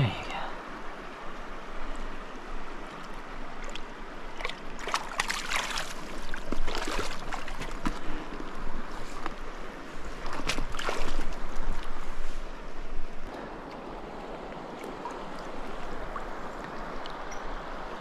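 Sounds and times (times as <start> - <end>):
stream flowing: 0.0 - 18.0
water splashing and sloshing: 0.6 - 18.0.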